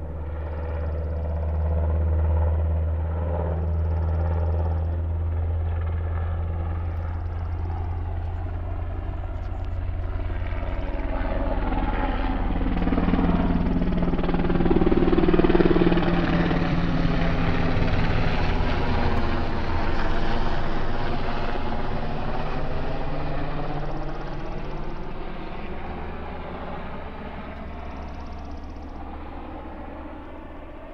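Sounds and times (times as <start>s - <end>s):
helicopter flying overhead: 0.0s - 30.9s.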